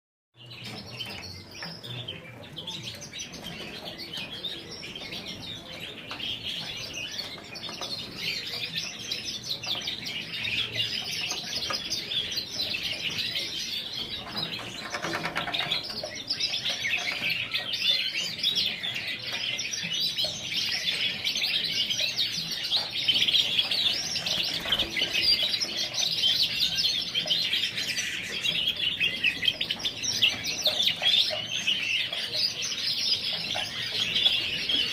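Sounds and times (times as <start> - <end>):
canaries chirping: 0.4 - 34.9.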